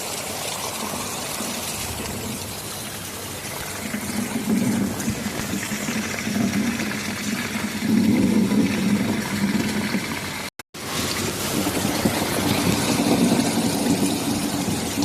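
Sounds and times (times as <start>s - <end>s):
steady rain hiss: 0.0s - 15.0s
low rolling thunder: 1.8s - 10.2s, 11.0s - 15.0s.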